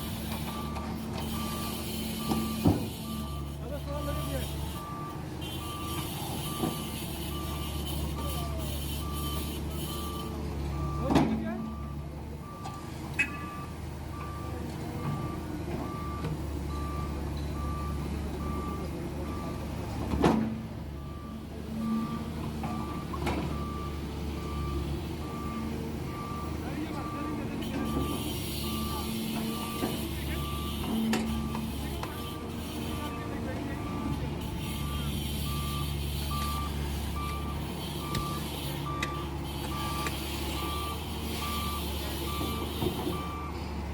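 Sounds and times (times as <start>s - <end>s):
heavy machinery engine running: 0.0s - 43.9s
reversing alarm beeping: 0.1s - 19.6s, 21.0s - 43.7s.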